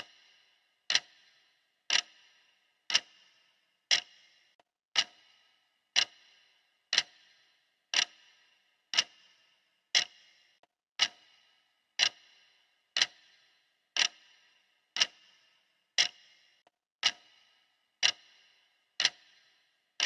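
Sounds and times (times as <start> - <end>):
clock ticking: 0.0 - 15.4, 16.0 - 20.0.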